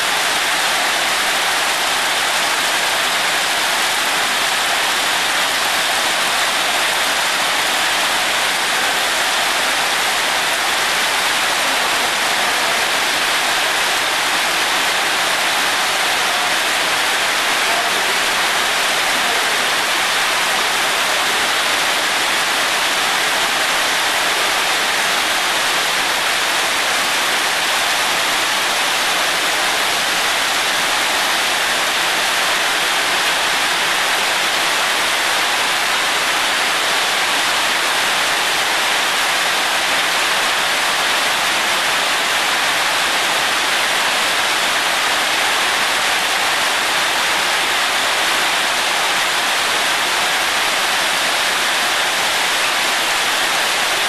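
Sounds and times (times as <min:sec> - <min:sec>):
heavy rain on pavement: 0:00.0 - 0:54.0.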